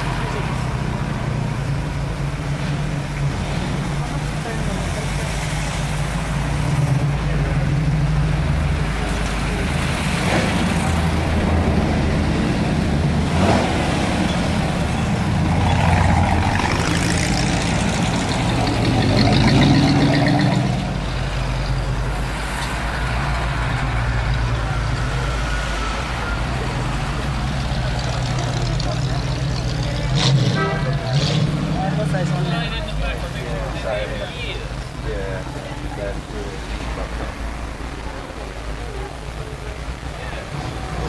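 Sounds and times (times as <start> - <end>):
car engines passing slowly: 0.0 - 41.0.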